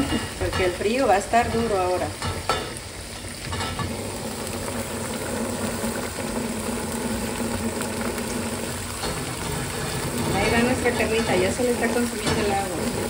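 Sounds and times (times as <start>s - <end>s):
water bubbling in a pan: 0.0s - 13.0s.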